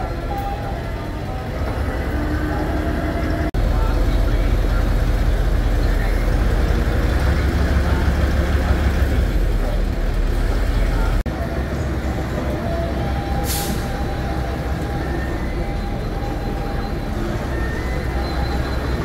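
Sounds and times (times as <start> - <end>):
indistinct voices: 0.0 - 19.0.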